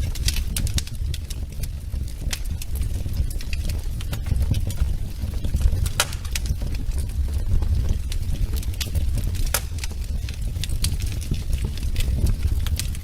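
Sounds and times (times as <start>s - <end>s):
steady low rumble: 0.0s - 13.0s
wood fire crackling: 0.0s - 13.0s.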